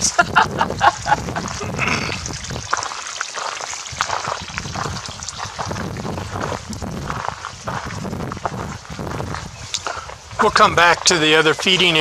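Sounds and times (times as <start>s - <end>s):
water trickling onto stones: 0.0s - 12.0s.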